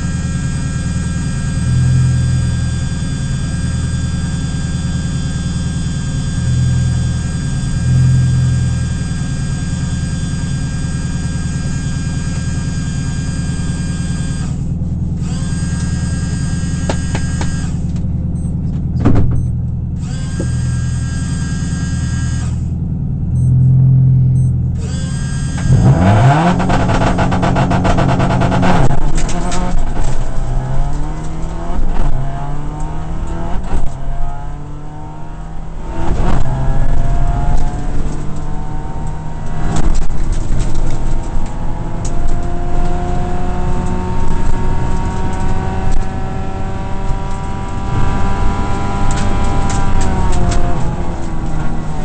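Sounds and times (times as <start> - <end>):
rally car engine accelerating: 0.0 - 52.0
road noise: 0.0 - 52.0.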